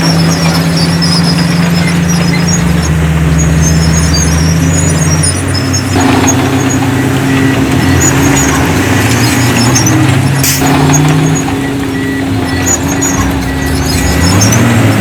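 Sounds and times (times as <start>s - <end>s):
faint high squeaks: 0.0s - 14.9s
heavy diesel engine running: 0.0s - 15.0s.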